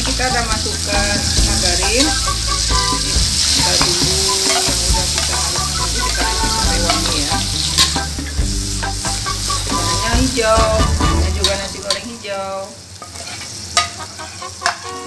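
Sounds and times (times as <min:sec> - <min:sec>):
frying sizzling in a pan: 0:00.0 - 0:15.0
stirring in a pan: 0:00.0 - 0:15.0.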